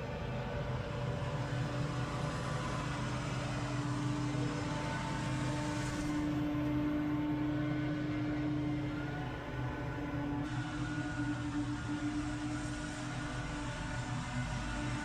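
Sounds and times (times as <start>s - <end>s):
small engine running: 0.9s - 15.0s.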